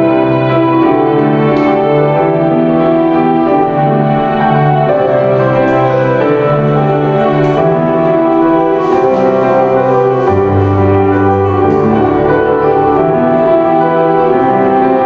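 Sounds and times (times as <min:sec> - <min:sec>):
slow string and piano chords: 0:00.0 - 0:15.0.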